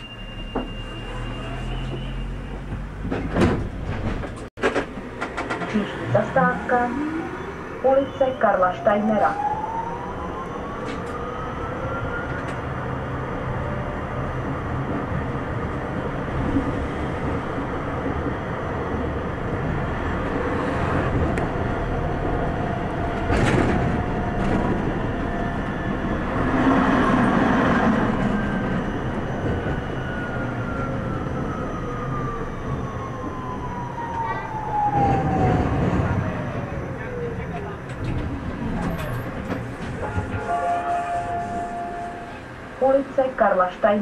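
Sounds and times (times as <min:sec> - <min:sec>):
tram wheel and track rumble: 0:00.0 - 0:44.0.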